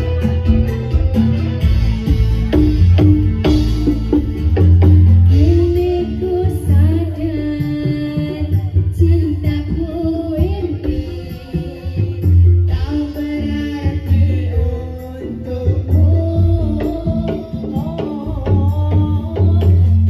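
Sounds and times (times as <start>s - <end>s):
heavy drum beat with deep bass: 0.0s - 20.0s.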